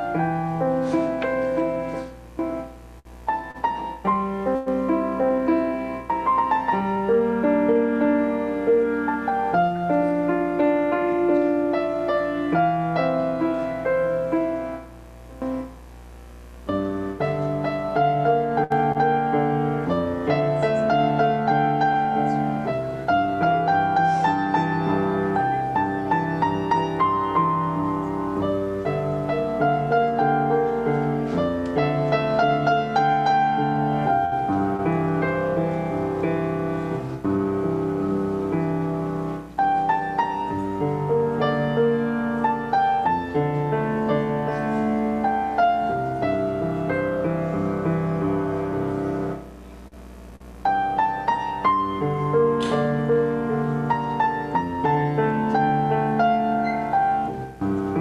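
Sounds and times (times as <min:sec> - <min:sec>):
piano playing: 0:00.0 - 0:15.9, 0:16.6 - 0:58.0.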